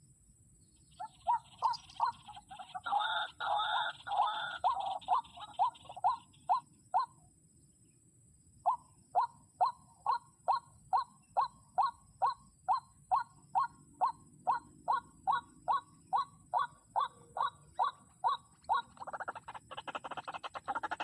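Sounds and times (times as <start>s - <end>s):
waterhen calling: 1.0s - 7.1s, 9.2s - 21.0s.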